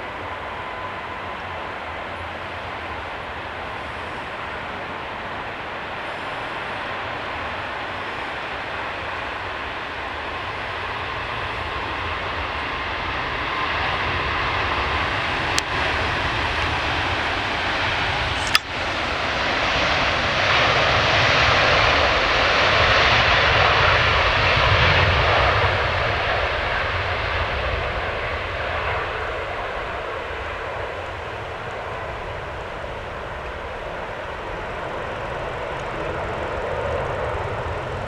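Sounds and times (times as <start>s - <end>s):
jet engine rumble: 0.0s - 38.0s.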